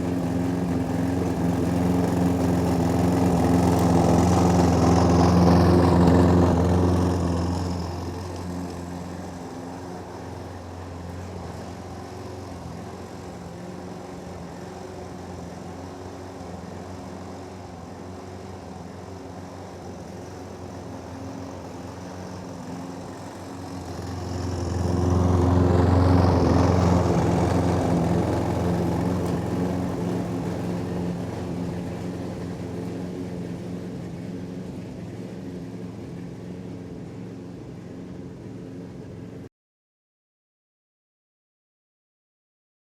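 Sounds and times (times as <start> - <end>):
lawnmower engine running: 0.0 - 39.4.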